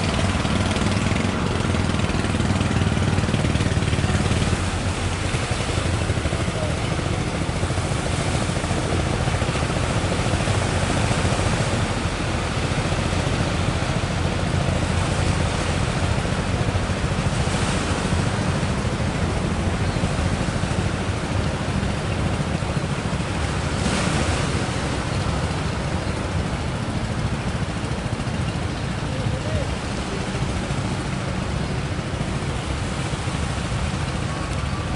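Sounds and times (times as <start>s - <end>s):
ocean surf breaking: 0.0s - 34.9s.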